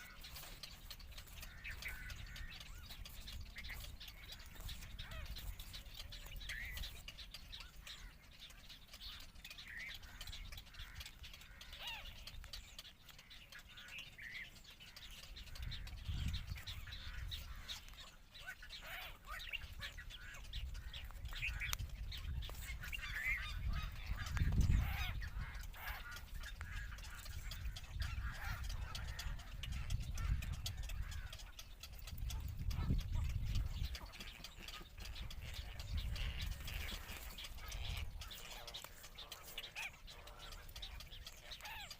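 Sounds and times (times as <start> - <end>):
egret chicks squawking: 0.0 - 41.9.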